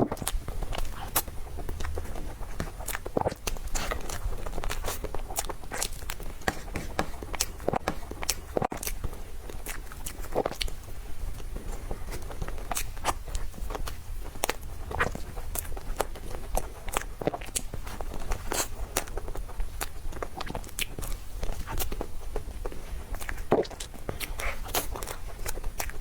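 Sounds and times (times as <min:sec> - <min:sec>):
person chewing with mouth clicks: 0:00.0 - 0:26.0.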